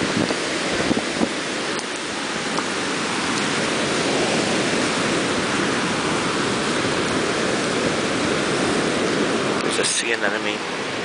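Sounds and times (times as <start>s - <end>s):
ocean surf on rocky shore: 0.0s - 11.0s.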